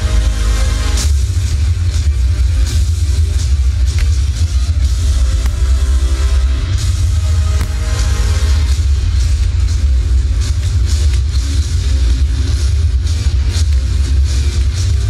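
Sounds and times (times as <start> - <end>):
fireworks rumble and bangs: 0.0 - 15.0
music playing: 0.0 - 15.0.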